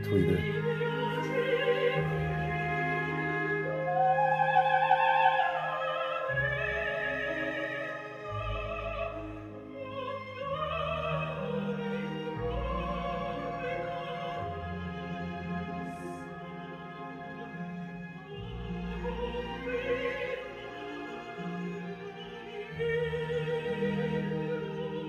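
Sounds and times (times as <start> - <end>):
operatic singing with orchestra: 0.0 - 25.0.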